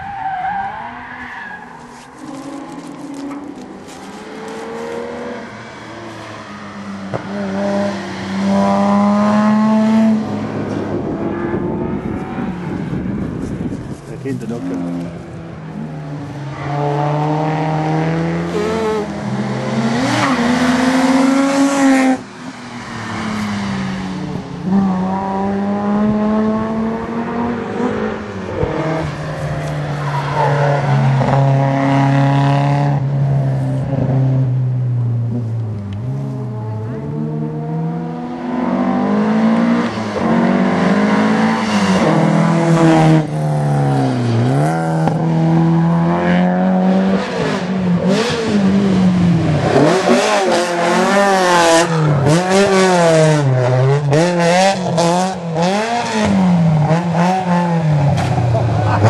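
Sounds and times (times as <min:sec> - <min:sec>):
cars passing: 0:00.0 - 0:59.0
rally car engines revving: 0:00.0 - 0:59.0.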